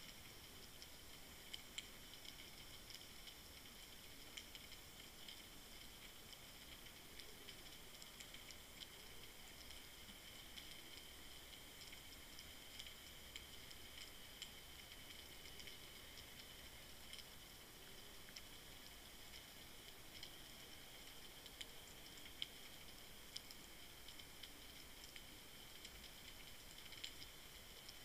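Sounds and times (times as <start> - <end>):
faint steady hiss: 0.0 - 28.0
small underwater clicks: 0.0 - 28.0.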